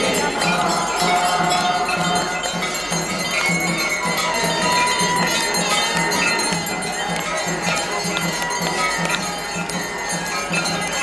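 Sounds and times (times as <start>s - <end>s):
bells ringing: 0.0s - 11.0s.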